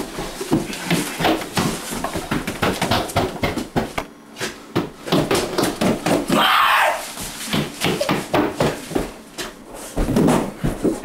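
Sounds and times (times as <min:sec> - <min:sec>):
footsteps on stairs: 0:00.0 - 0:11.0.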